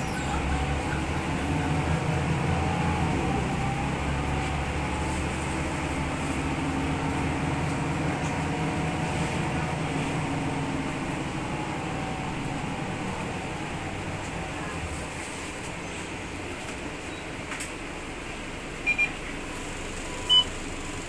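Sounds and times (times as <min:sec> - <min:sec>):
diesel bus engine droning: 0:00.0 - 0:21.0.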